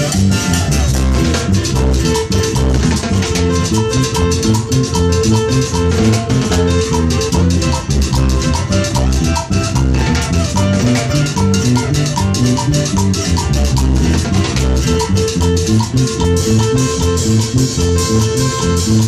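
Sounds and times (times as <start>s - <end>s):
bass guitar: 0.0s - 19.0s
drum kit fast beat: 0.0s - 19.0s.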